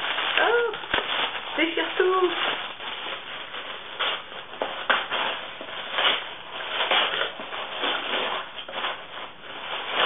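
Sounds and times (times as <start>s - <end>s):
wrapping paper tearing and crinkling: 0.0s - 10.0s.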